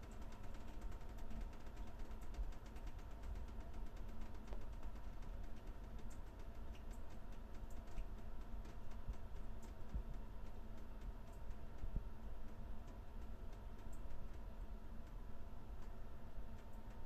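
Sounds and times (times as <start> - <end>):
shower water pattering: 0.0 - 15.2.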